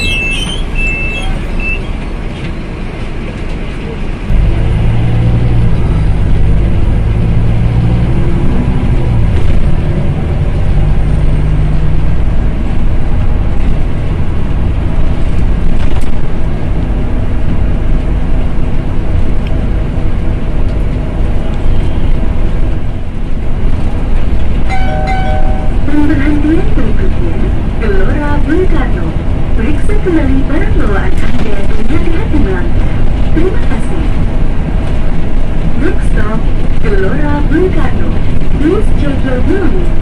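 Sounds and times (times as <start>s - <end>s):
bus engine rumble: 0.0s - 40.0s
road noise: 0.0s - 40.0s.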